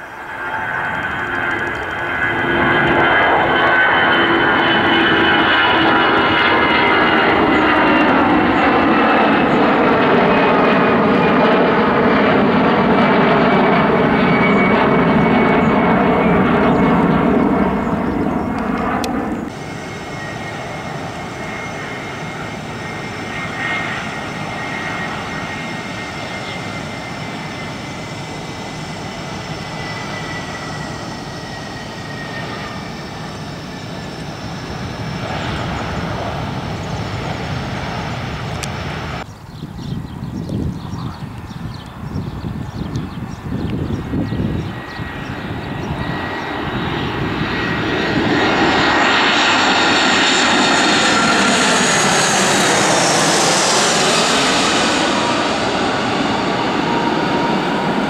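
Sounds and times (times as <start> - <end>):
jet engines at takeoff: 0.0 - 58.0
landing jet high whine: 0.0 - 58.0.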